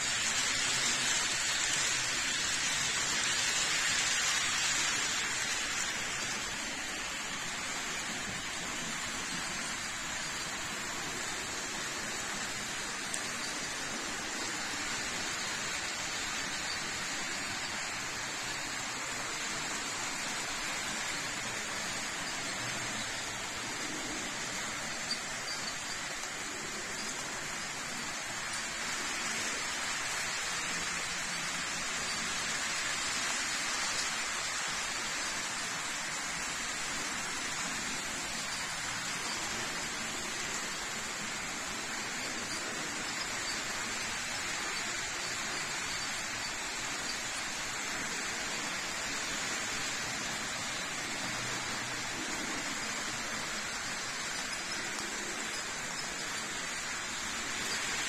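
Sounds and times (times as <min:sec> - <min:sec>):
model train wheels rolling: 0:00.0 - 0:58.0.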